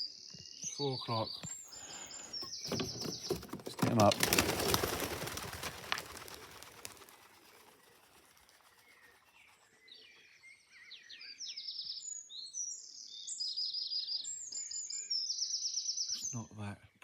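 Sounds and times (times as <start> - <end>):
songbirds singing trills: 0.0 - 4.8, 6.2 - 17.0.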